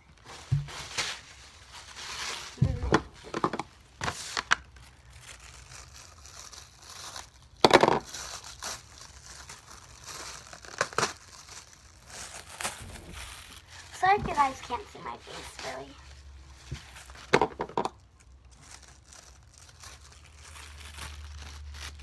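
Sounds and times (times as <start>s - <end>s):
plastic and paper crinkling: 0.1s - 22.0s.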